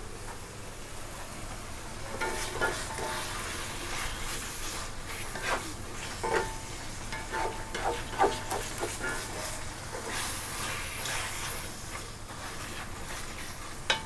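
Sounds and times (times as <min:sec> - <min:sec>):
meat sizzling in a pan: 0:00.9 - 0:14.0
spatula scraping pan: 0:02.1 - 0:14.0.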